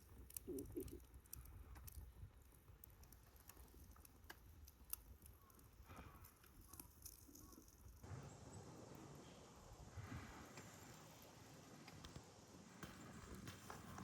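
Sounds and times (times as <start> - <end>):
campfire wood crackling: 0.0 - 14.0.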